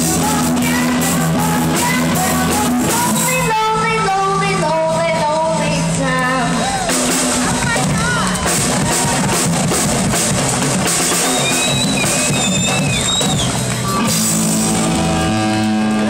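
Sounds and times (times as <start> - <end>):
rock band playing loudly: 0.0 - 3.5, 6.6 - 16.0
drums driving hard: 0.0 - 3.8, 5.8 - 16.0.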